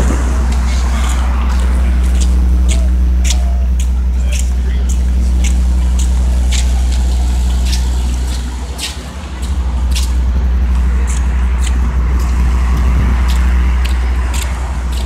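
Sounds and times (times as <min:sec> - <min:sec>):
low rumble on microphone: 0:00.0 - 0:15.0
traffic passing: 0:00.0 - 0:15.0
sharp short ticks: 0:00.5 - 0:15.0.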